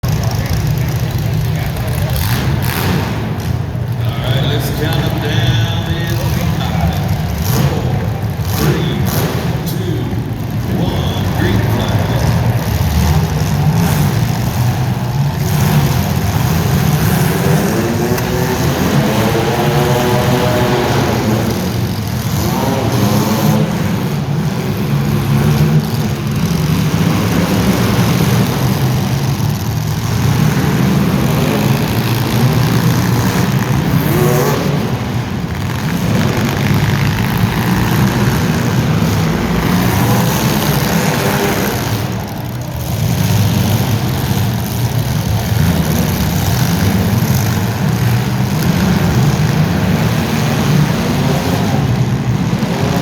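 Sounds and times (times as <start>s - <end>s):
racing engines revving: 0.0s - 53.0s.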